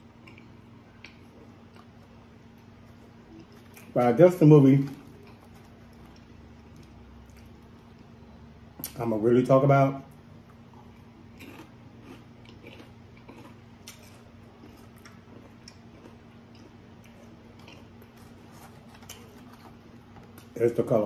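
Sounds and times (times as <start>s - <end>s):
person chewing crunchy chips: 0.0s - 8.2s, 10.5s - 20.6s
steady low hum: 0.0s - 21.0s.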